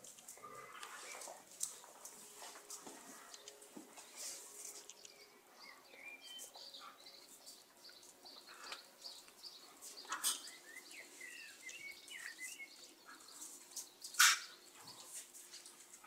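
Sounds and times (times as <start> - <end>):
birds chirping faintly: 0.0 - 16.0
outdoor background noise: 0.0 - 16.0.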